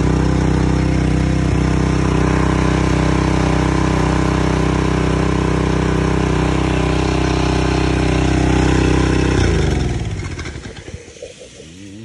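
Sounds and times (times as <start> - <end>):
engine running and winding down: 0.0 - 12.0.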